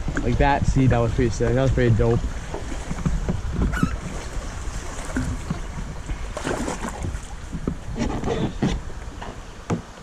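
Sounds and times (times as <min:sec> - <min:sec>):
wind buffeting microphone: 0:00.0 - 0:09.6
paddle splashes: 0:00.0 - 0:10.0
water against hull: 0:00.0 - 0:10.0.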